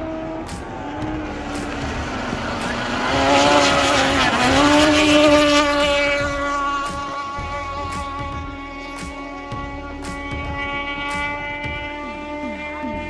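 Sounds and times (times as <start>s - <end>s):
outboard engine at high revs: 0.0s - 13.0s.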